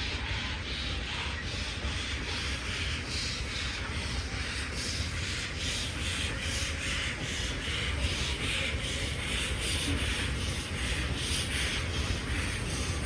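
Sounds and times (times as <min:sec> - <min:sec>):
steam locomotive exhaust beats: 0:00.0 - 0:13.0.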